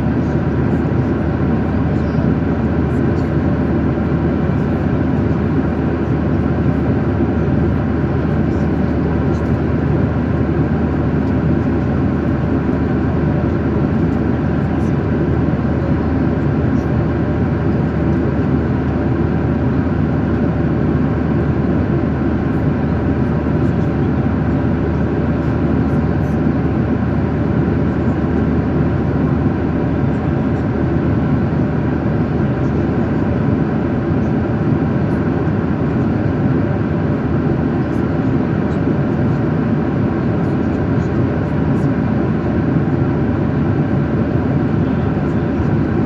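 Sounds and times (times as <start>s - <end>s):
airliner cabin engine drone: 0.0s - 46.0s.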